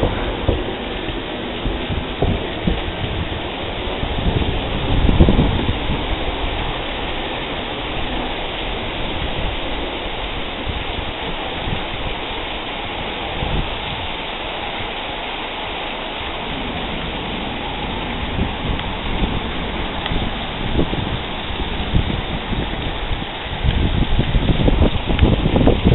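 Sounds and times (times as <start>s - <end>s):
heavy rain pouring: 0.0s - 25.9s
wind buffeting microphone: 0.0s - 25.9s.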